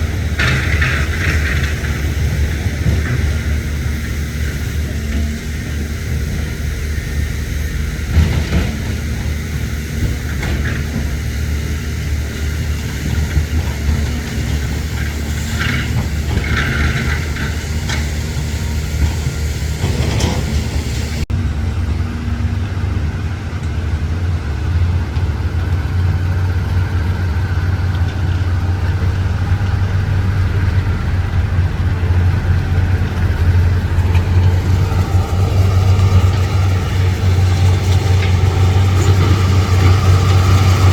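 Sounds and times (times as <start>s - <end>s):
heavy diesel machinery running: 0.0s - 40.9s
low engine drone: 0.0s - 40.9s.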